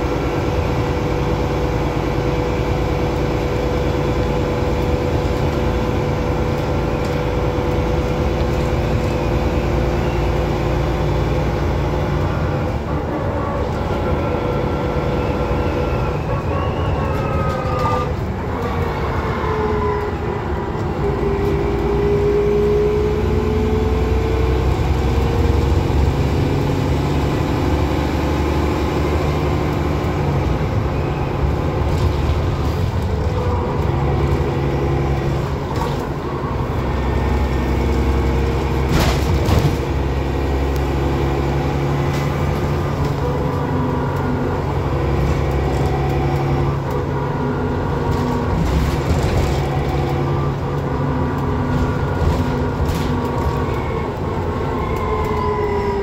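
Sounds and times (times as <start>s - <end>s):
bus diesel engine pulling: 0.0s - 56.0s.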